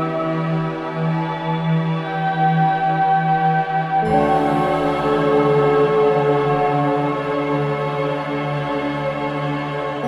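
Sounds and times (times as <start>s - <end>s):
slow ambient music: 0.0s - 10.0s.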